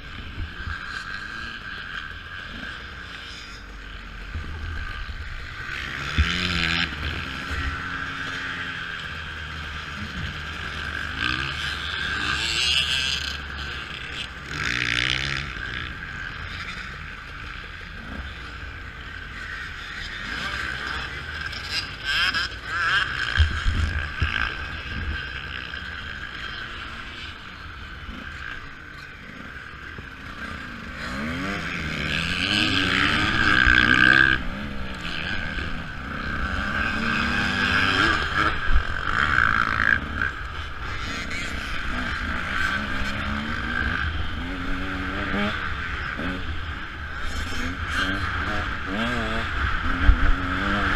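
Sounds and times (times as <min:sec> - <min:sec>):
motocross bike engine revving: 0:00.0 - 0:50.9.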